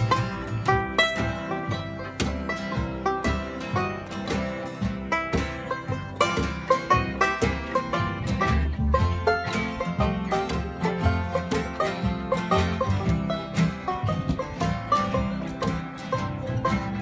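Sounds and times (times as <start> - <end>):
banjo picking: 0.0 - 17.0
strummed acoustic guitars: 0.0 - 17.0.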